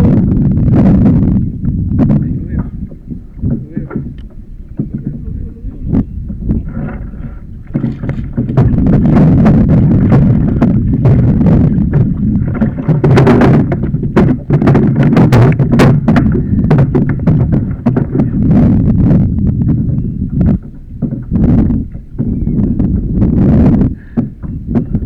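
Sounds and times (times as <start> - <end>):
knocks and clicks against hull: 0.0 - 25.0
water sloshing against kayak: 0.0 - 25.0.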